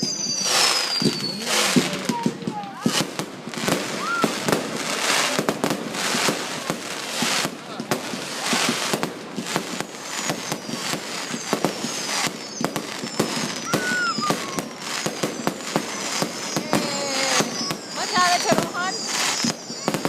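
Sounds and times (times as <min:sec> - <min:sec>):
firework whistles falling in pitch: 0:00.0 - 0:20.0
fireworks bangs and crackles: 0:00.0 - 0:20.0.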